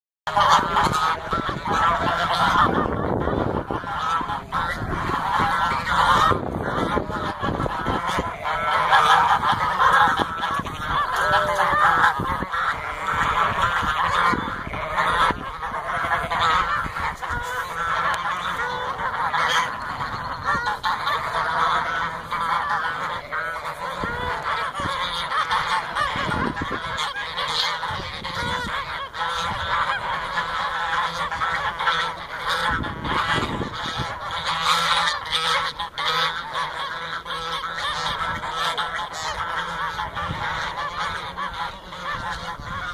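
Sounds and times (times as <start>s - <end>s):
geese honking: 0.3s - 42.9s.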